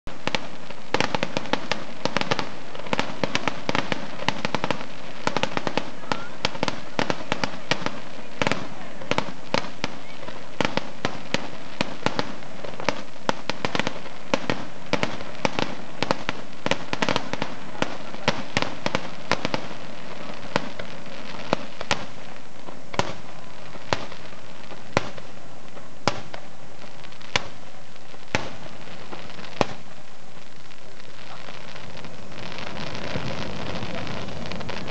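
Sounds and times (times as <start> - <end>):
fireworks bursts and crackling: 0.0 - 34.9.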